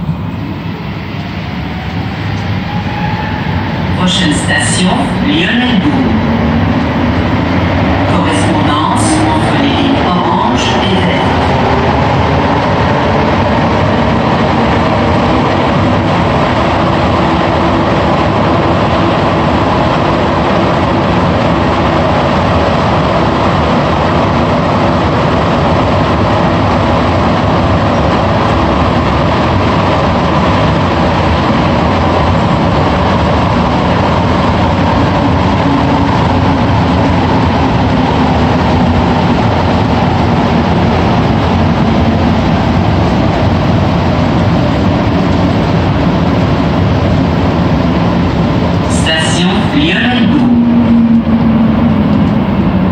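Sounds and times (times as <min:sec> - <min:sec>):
metro train roaring in tunnel: 0:00.0 - 0:52.9.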